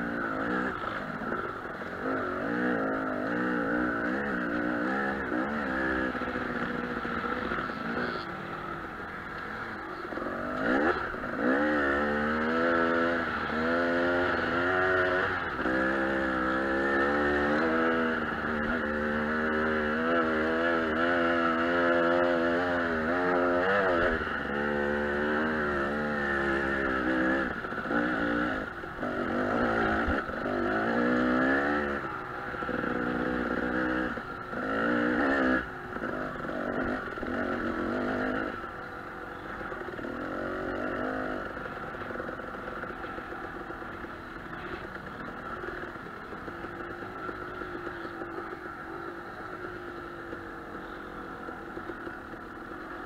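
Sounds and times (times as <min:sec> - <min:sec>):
two-stroke dirt bike engine: 0:00.0 - 0:53.0.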